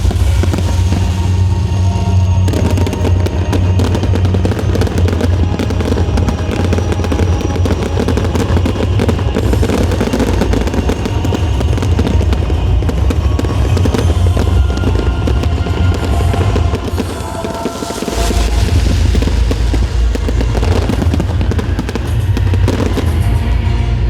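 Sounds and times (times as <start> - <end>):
fireworks crackling and popping: 0.0 - 23.7.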